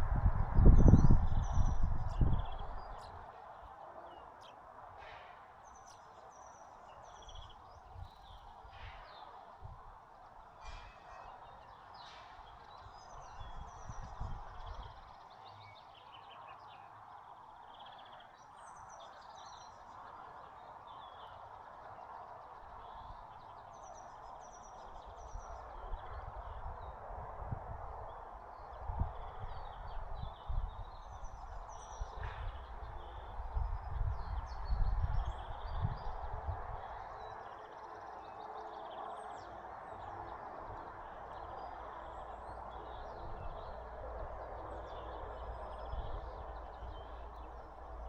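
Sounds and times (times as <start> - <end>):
songbirds chirping: 0.0 - 48.0.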